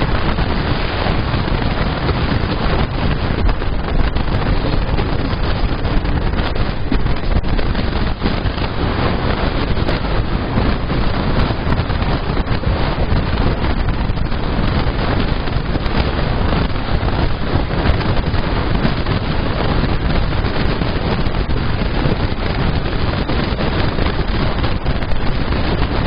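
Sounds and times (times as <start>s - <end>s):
train rumbling on track: 0.0s - 26.0s
wind buffeting microphone: 0.0s - 26.0s.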